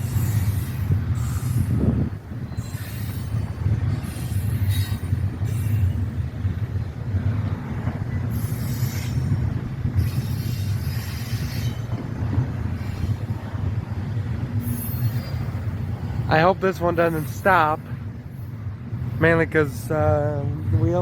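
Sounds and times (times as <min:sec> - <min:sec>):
high-pitched wheel noise: 0:00.0 - 0:06.2, 0:08.2 - 0:13.7, 0:14.5 - 0:20.2
freight train rumbling: 0:00.0 - 0:21.0.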